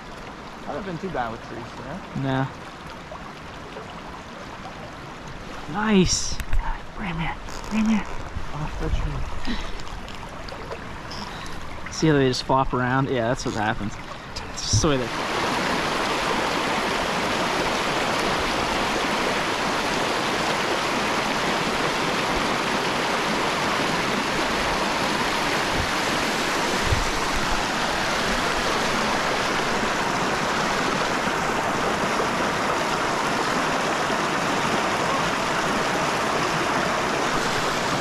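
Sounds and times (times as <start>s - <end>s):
stream rushing over rocks: 0.0s - 38.0s.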